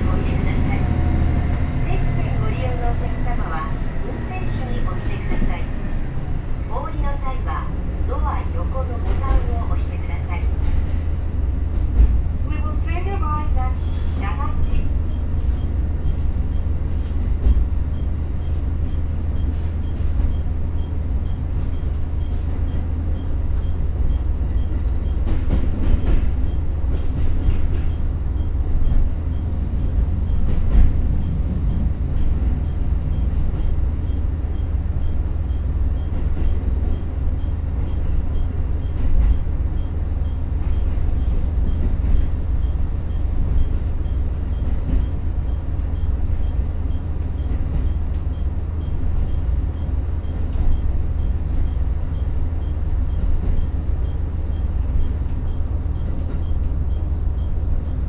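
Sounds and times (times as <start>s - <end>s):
diesel railcar rumble: 0.0s - 58.0s.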